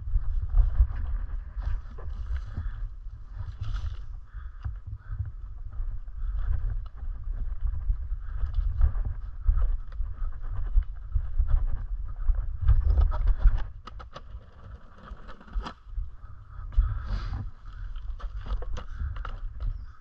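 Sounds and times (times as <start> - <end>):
microphone handling noise: 0.0 - 20.0
wind rumble on microphone: 0.0 - 20.0.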